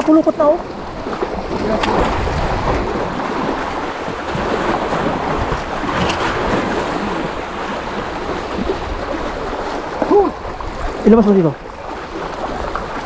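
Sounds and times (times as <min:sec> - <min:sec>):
sea water washing among rocks: 0:00.0 - 0:13.0
wind buffeting microphone: 0:00.0 - 0:13.0.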